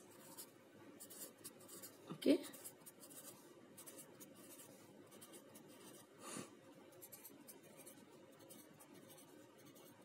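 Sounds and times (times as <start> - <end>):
marker scratching on paper: 0.0 - 6.2, 6.9 - 10.0.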